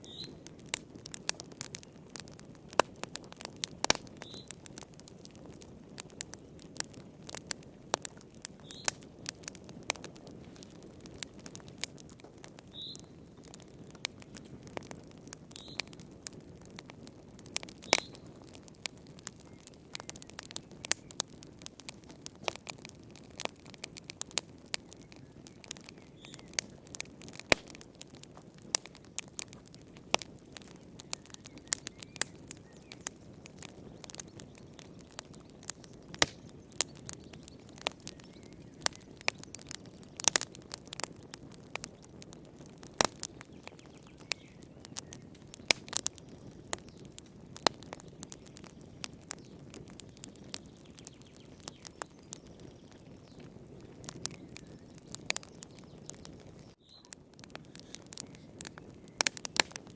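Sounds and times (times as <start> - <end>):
wood fire crackling and popping: 0.0 - 59.9
rush of flames: 0.2 - 59.9.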